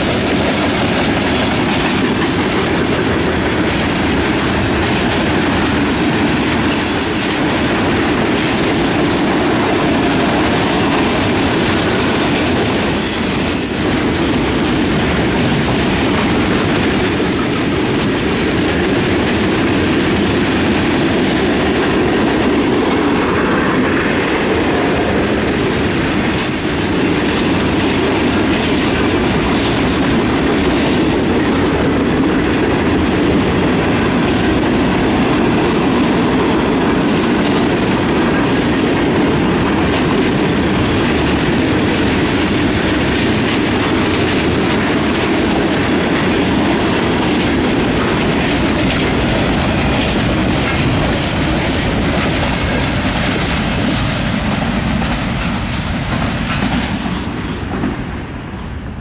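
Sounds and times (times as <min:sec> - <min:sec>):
wheels clattering over rail joints: 0:00.0 - 0:58.0
freight train rolling past: 0:00.0 - 0:59.0.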